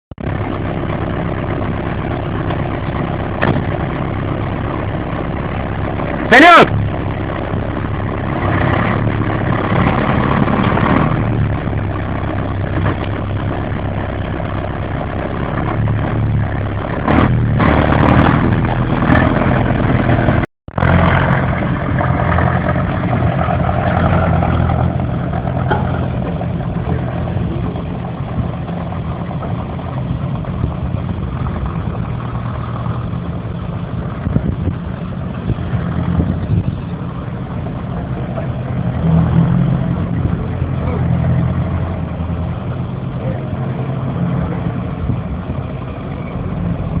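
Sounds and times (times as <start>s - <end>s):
vehicle engine droning: 0.2s - 47.0s.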